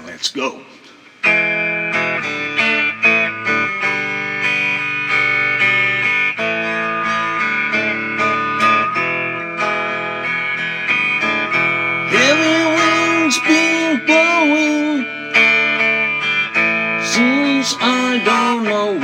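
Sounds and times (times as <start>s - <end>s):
guitar strumming chords: 1.1s - 19.0s.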